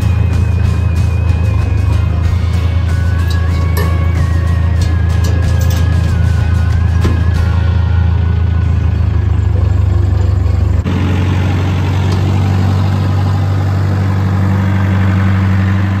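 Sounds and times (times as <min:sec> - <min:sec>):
engine idling: 0:00.0 - 0:16.0
forklift diesel engine idling: 0:00.0 - 0:16.0.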